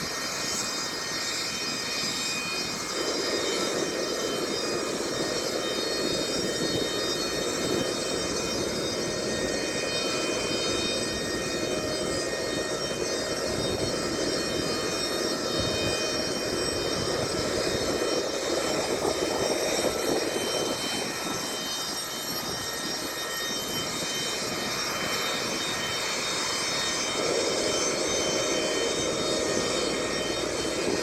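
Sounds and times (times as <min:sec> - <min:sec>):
jet turbine running: 0:00.0 - 0:31.0.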